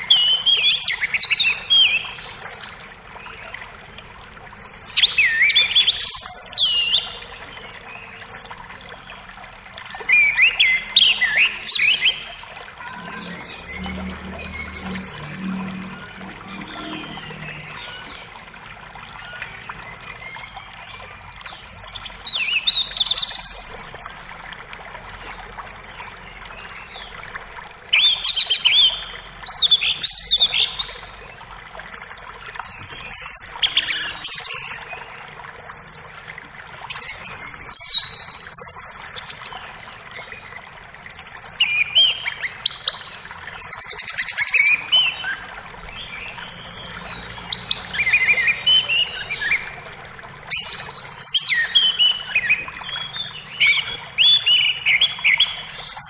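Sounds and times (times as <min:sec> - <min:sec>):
running creek: 0:00.0 - 0:56.0.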